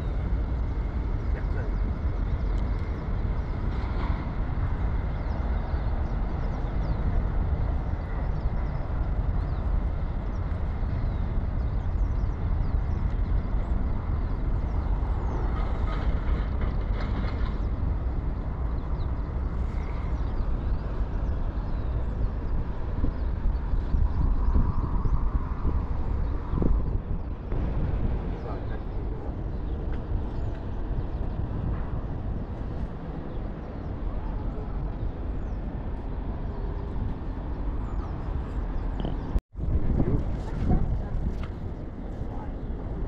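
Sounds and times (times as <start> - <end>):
low outdoor rumble: 0.0 - 43.0.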